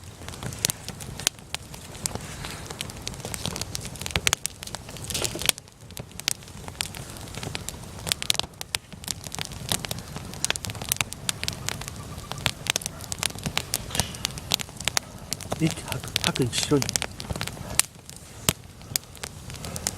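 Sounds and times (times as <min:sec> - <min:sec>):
campfire crackling and popping: 0:00.0 - 0:19.9
low rumble of flames: 0:00.0 - 0:19.9.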